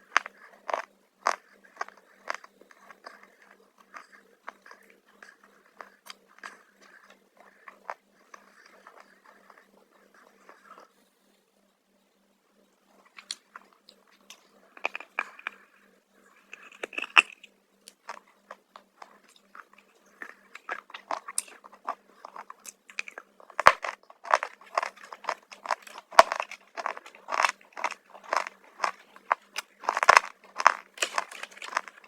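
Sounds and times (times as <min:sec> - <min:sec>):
chewing crunchy chips: 0:00.0 - 0:10.9, 0:13.0 - 0:15.7, 0:16.4 - 0:32.0.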